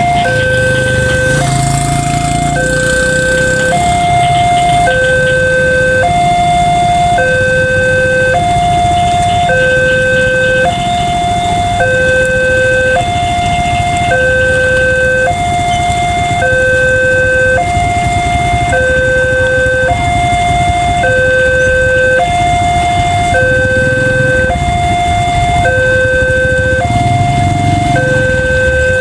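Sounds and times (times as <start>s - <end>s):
two-tone level crossing alarm: 0.0s - 29.0s.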